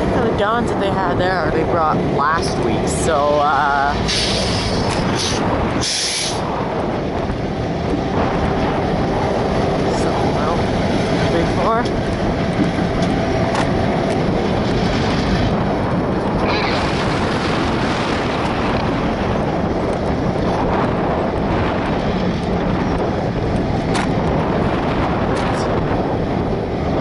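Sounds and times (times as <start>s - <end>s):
locomotive low rumble: 0.0s - 27.0s
wind buffeting microphone: 0.0s - 27.0s.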